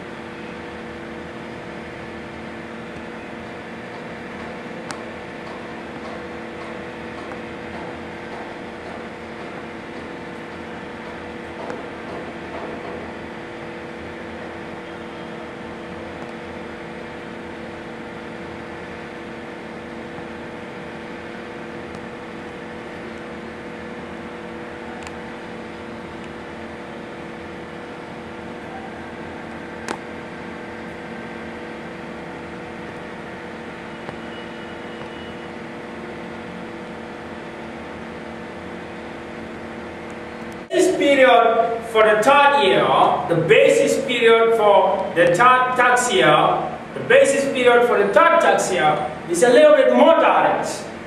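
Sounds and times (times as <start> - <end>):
steady machine hum: 0.0 - 51.0.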